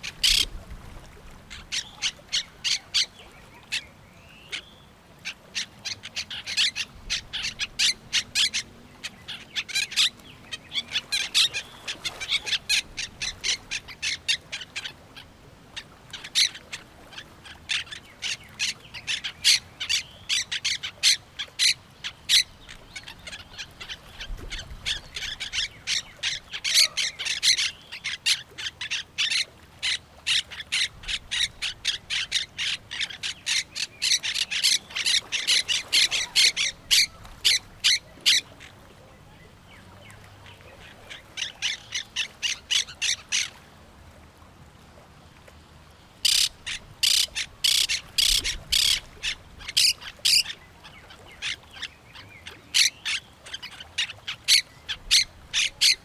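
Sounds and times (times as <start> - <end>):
birds squawking and chirping: 0.0 - 0.5, 1.5 - 15.2, 15.8 - 38.8, 40.0 - 43.6, 46.2 - 56.0.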